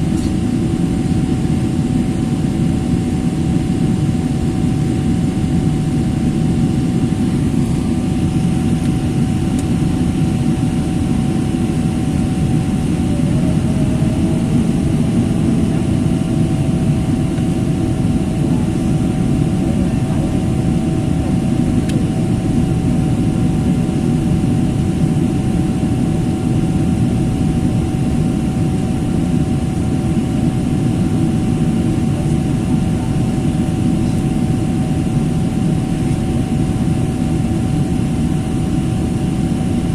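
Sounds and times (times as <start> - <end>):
constant hum: 0.0 - 39.9
jet engine cabin roar: 0.0 - 39.9.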